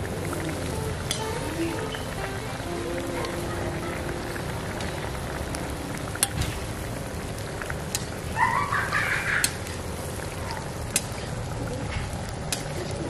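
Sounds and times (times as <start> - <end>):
liquid pouring: 0.0 - 13.0.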